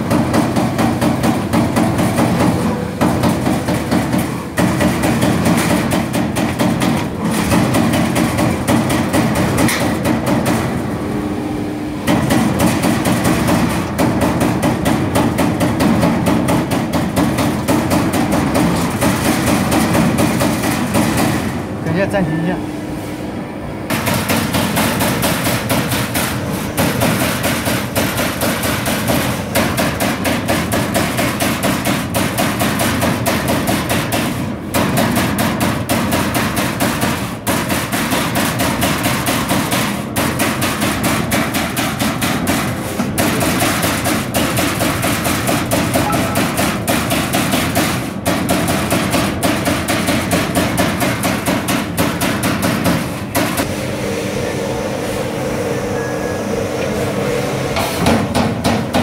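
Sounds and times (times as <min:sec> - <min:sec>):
punch press punching sheet metal: 0:00.0 - 0:10.9, 0:12.0 - 0:21.6, 0:23.9 - 0:53.7, 0:57.8 - 0:59.0.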